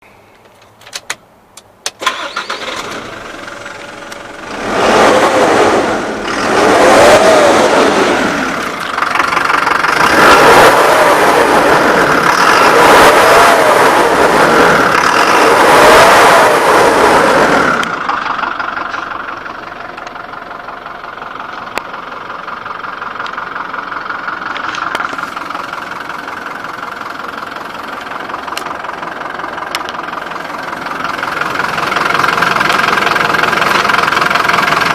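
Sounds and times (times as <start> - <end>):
diesel engine starting and idling: 1.8 - 34.9
diesel engine revving: 2.0 - 34.9.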